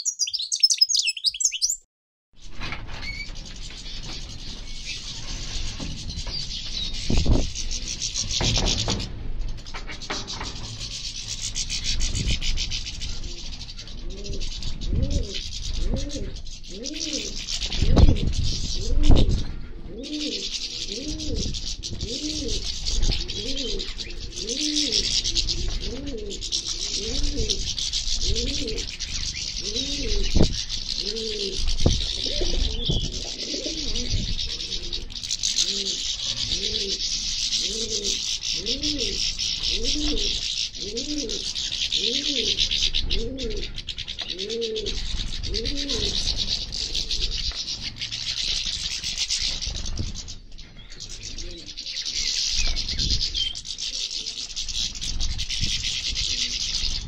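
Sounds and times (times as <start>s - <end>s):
finches twittering: 0.0s - 1.8s, 3.1s - 57.0s.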